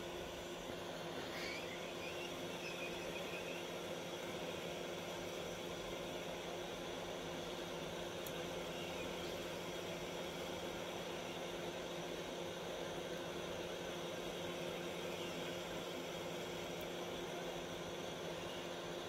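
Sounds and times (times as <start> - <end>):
constant hum: 0.0 - 19.0.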